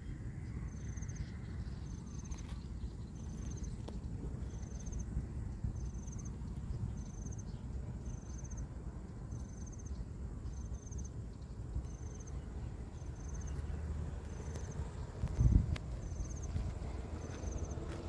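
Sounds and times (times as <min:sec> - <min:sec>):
insect chirping: 0:00.0 - 0:18.0
low steady background noise: 0:00.0 - 0:18.0.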